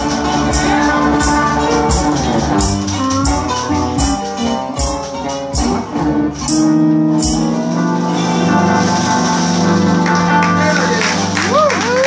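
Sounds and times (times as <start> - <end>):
string band playing: 0.0 - 12.0.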